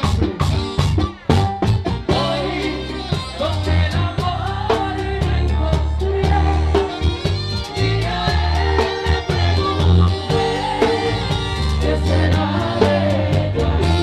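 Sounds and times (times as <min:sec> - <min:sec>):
bass line: 0:00.0 - 0:14.0
guitar: 0:00.0 - 0:14.0.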